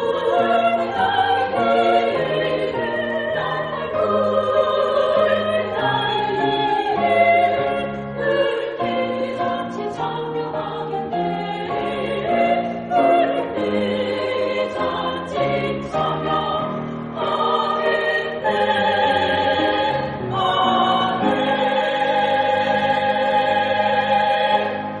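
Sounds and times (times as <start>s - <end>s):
women's choir singing: 0.0s - 25.0s.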